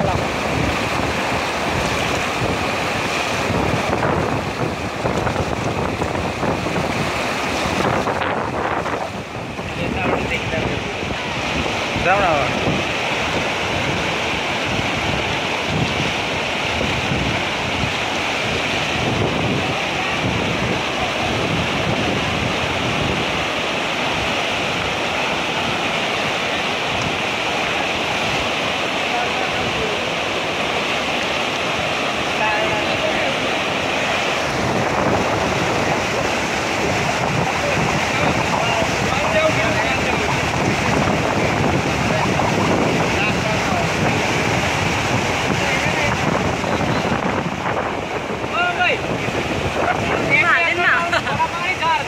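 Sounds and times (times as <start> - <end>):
floodwater rushing: 0.0 - 52.0
wind buffeting microphone: 0.0 - 52.0.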